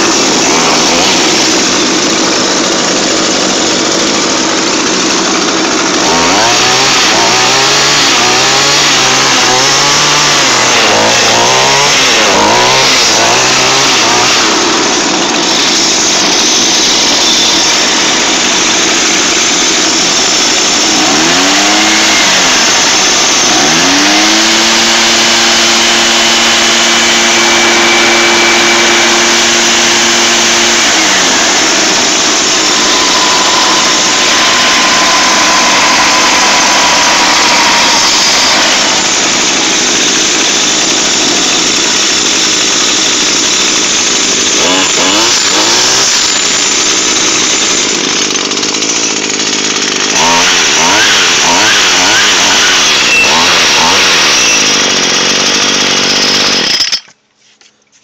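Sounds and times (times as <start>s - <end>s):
small two-stroke engine revving: 0.0s - 57.1s.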